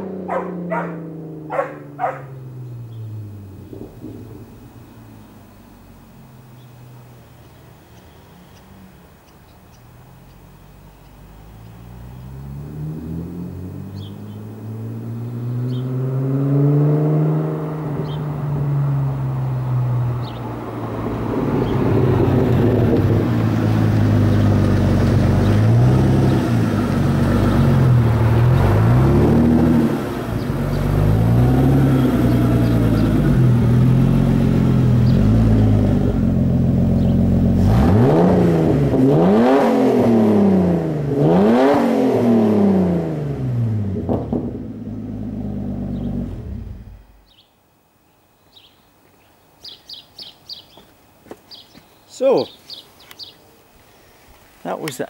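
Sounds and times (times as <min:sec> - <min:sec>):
car engine revving: 0:00.0 - 0:09.2, 0:09.8 - 0:47.3.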